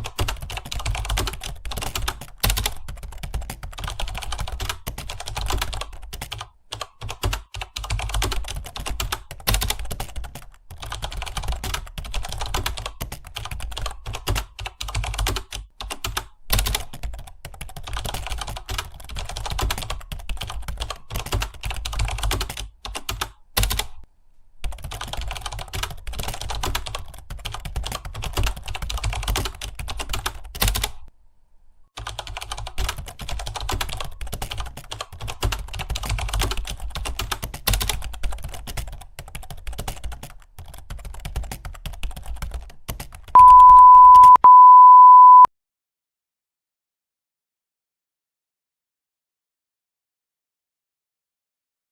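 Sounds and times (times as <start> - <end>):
computer keyboard typing: 0.0 - 24.0, 24.6 - 31.1, 32.0 - 45.4.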